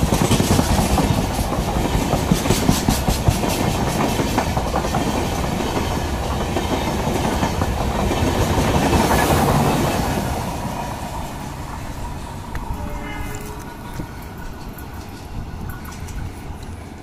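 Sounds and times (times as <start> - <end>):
train wheels clattering over joints: 0.0 - 17.0.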